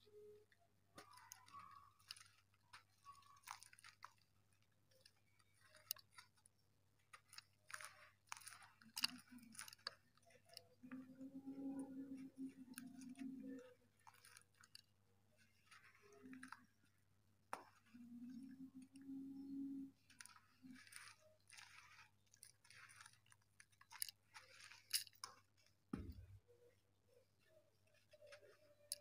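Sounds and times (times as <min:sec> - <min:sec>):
dry dirt lumps crumbling: 0:00.8 - 0:29.0.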